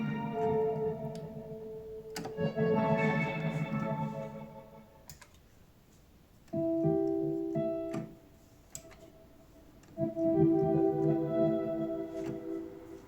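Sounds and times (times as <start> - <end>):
electric piano chords: 0.0 - 4.9, 6.5 - 13.0.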